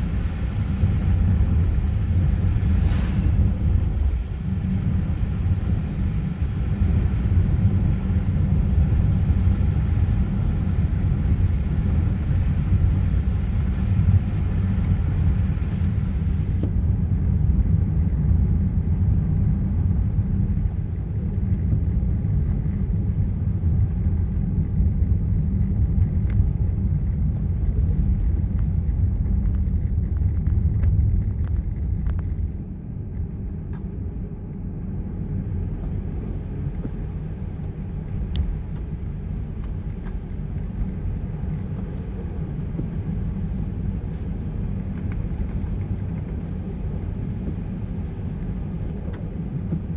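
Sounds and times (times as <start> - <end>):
car tyres rumbling through snow: 0.0 - 49.9.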